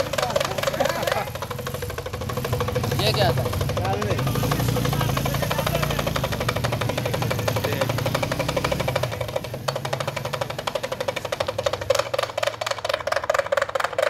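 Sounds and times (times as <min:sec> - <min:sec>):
hand drum roll: 0:00.0 - 0:14.0.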